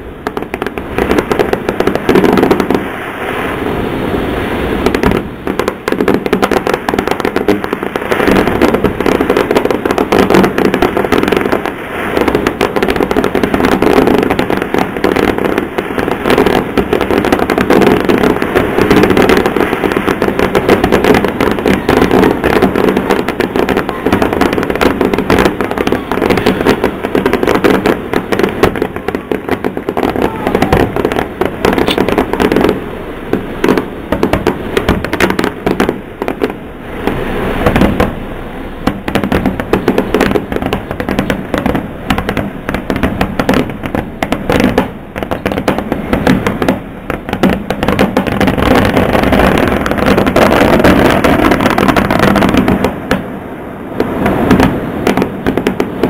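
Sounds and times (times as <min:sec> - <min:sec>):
fireworks bangs and crackle: 0:00.0 - 0:56.0.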